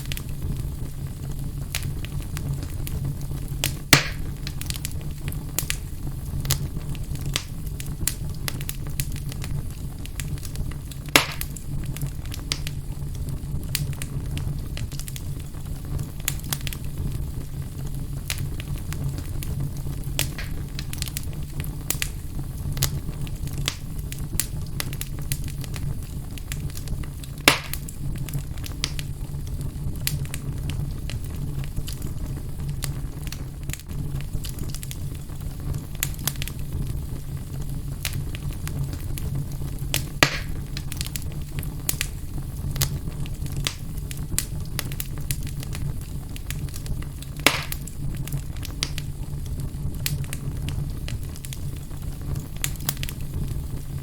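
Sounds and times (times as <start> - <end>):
fire crackling and popping: 0.0 - 54.0
low steady fire rumble: 0.0 - 54.0.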